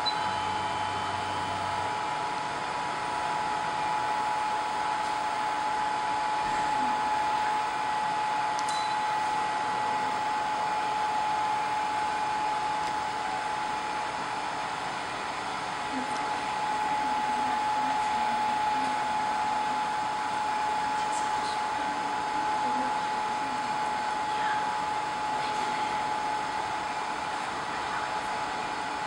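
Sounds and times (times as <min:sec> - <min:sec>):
steady whine: 0:00.0 - 0:29.0.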